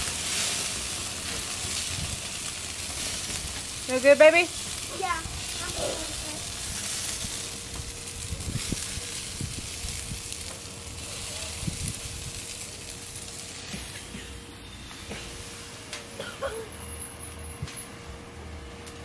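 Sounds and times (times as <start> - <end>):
chicken sizzling on a grill: 0.0 - 17.8.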